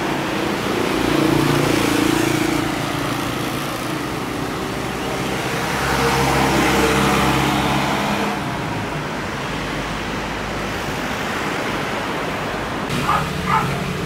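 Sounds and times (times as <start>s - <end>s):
rush of passing traffic: 0.0s - 14.0s
vehicle engine hum: 0.0s - 14.0s.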